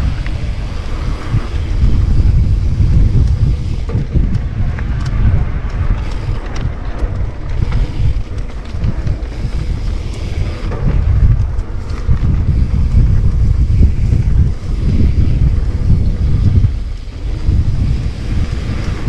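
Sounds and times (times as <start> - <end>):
bike clicks and rattles: 0.0 - 19.0
wind buffeting microphone: 0.0 - 19.0.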